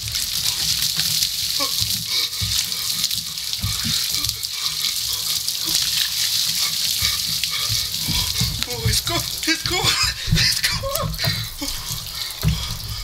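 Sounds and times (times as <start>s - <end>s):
water splattering on wooden deck: 0.0s - 13.0s.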